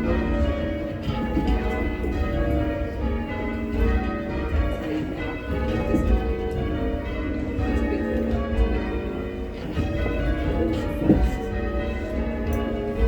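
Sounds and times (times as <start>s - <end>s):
church bells ringing changes: 0.0s - 13.0s.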